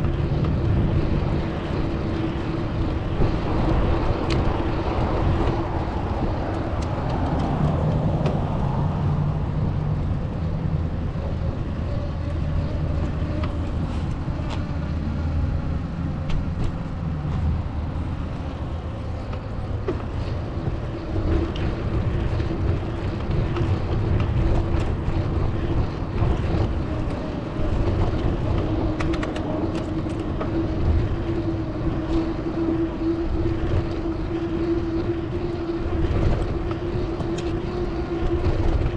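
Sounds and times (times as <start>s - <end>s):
engine hum: 0.0s - 38.9s
road traffic rumble: 0.0s - 38.9s.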